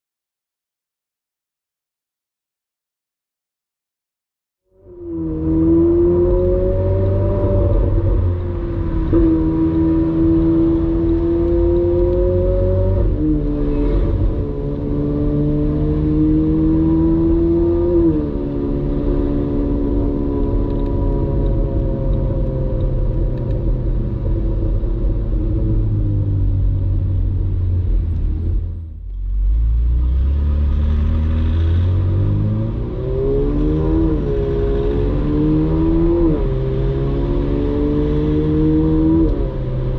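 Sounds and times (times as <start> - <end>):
car engine accelerating: 4.8 - 39.9.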